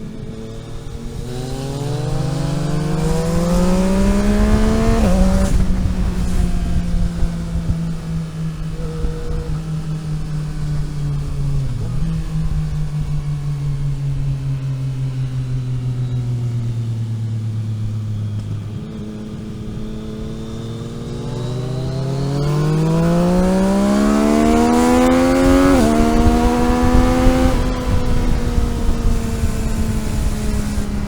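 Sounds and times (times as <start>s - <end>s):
vehicle engine accelerating: 0.0s - 31.0s.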